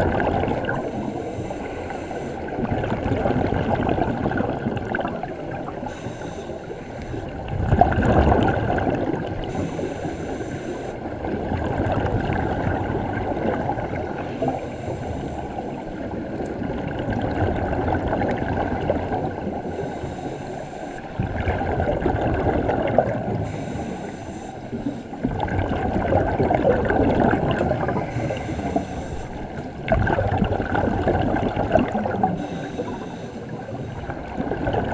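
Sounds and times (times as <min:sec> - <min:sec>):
underwater exhaled bubbles gurgling: 0:00.0 - 0:34.9.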